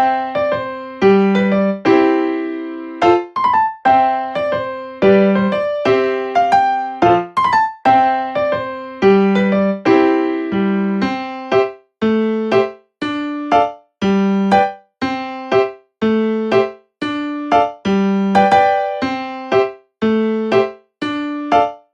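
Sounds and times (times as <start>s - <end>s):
electric piano melody: 0.0s - 21.9s.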